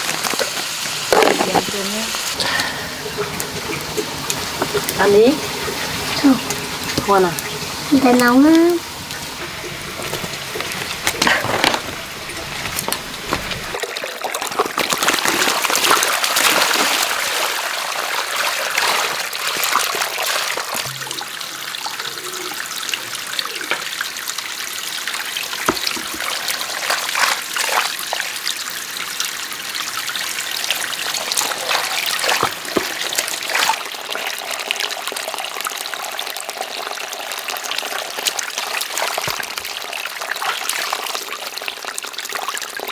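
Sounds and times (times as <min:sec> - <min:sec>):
water trickling and splashing: 0:00.0 - 0:42.9.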